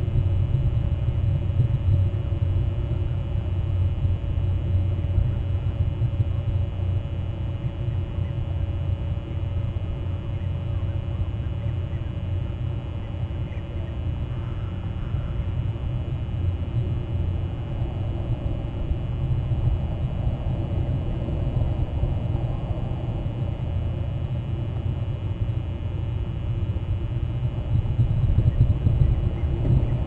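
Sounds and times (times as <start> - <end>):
faint constant hum: 0.0 - 30.0
steady low rumble: 0.0 - 30.0.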